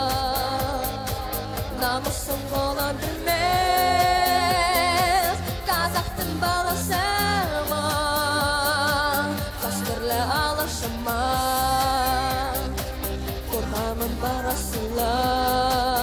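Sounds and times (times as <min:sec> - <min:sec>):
boy singing into a microphone: 0:00.0 - 0:16.0
instrumental music with steady beat: 0:00.0 - 0:16.0.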